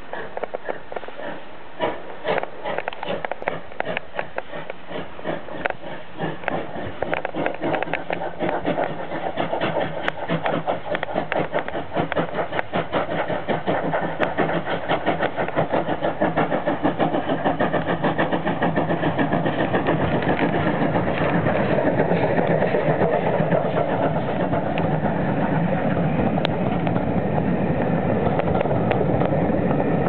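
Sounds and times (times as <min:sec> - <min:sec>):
steam locomotive exhaust beats: 0:00.0 - 0:30.0.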